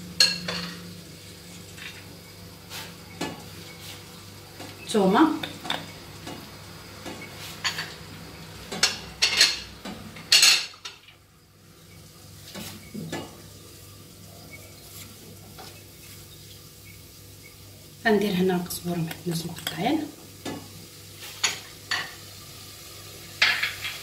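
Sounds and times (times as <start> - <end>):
soft sizzle: 0.0 - 24.0.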